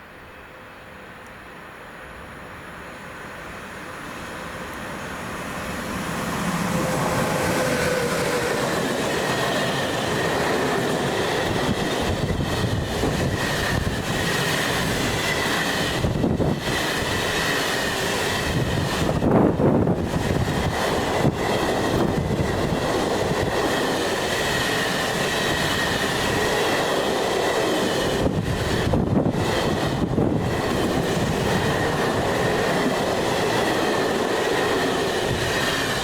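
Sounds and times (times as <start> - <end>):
train rumble passing: 0.0 - 36.0.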